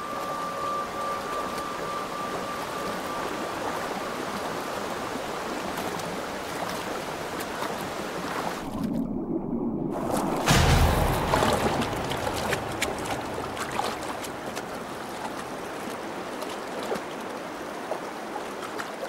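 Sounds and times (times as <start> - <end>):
stream water rushing: 0.0 - 8.8, 9.9 - 19.0.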